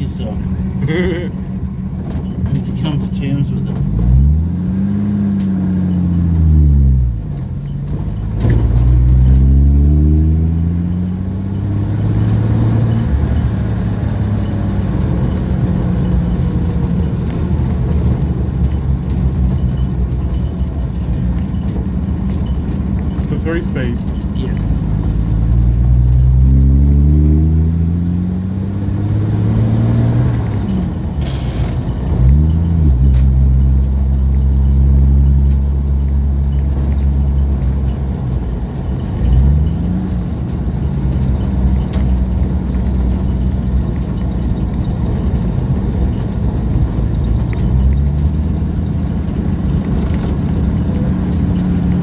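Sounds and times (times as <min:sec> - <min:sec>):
van engine pulling away: 0:00.0 - 0:52.0.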